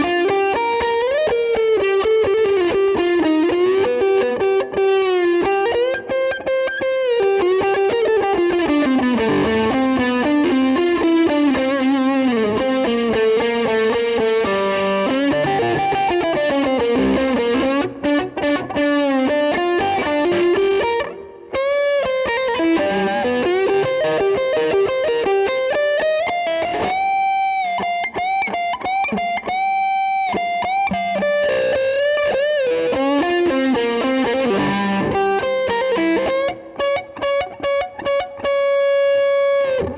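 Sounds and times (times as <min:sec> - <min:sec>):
electric guitar lead melody: 0:00.0 - 0:39.9.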